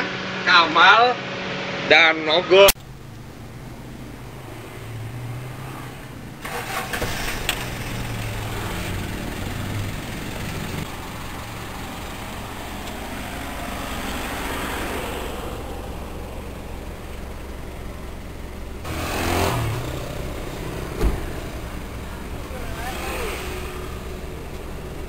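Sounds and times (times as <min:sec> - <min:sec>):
engine running steadily: 0:02.7 - 0:25.0
van engine cranking: 0:02.8 - 0:25.0.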